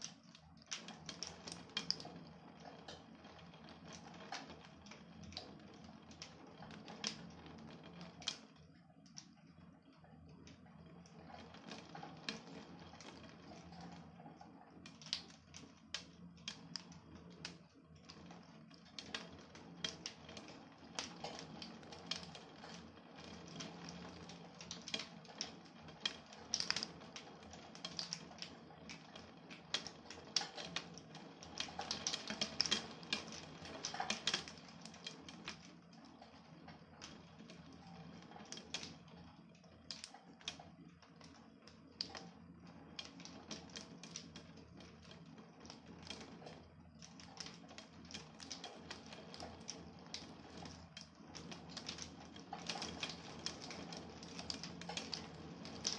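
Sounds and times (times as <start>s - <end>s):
raindrops tapping on hard surface: 0.0s - 9.4s, 14.8s - 55.9s.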